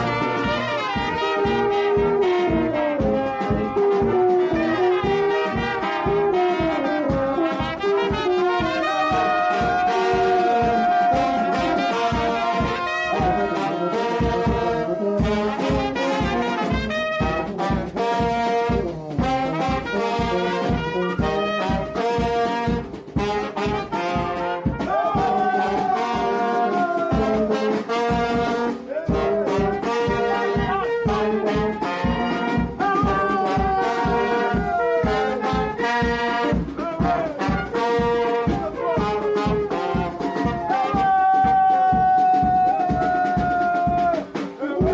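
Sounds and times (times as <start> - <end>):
brass band playing: 0.0 - 44.9.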